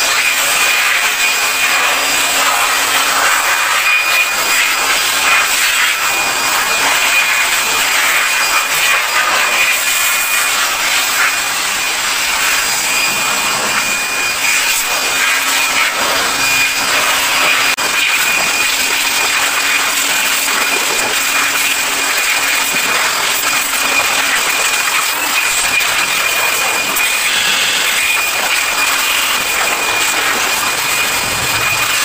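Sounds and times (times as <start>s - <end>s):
electric air blower whining: 0.0s - 32.0s.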